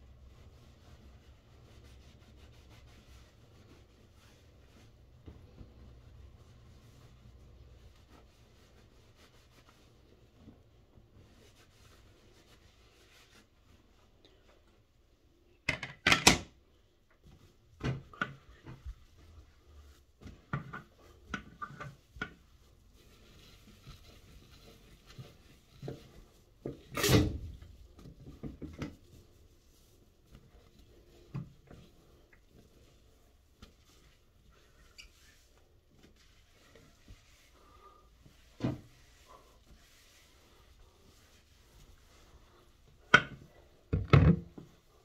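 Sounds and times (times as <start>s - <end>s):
cloth wiping: 0.0s - 15.5s, 16.7s - 43.9s, 44.5s - 45.0s.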